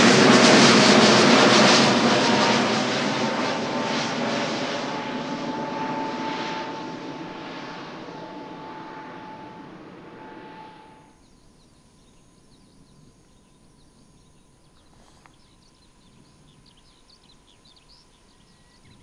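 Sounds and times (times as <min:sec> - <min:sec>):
jet airliner engine noise: 0:00.0 - 0:19.0.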